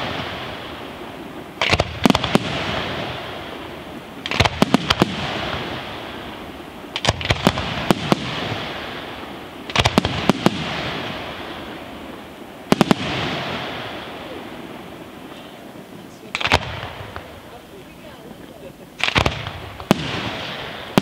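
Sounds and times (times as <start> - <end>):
firework shells bursting: 0.0 - 21.0.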